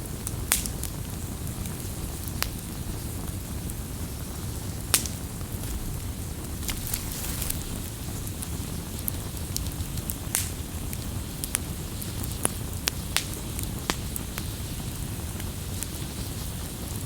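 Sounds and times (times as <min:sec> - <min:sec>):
campfire crackling and popping: 0:00.1 - 0:17.0.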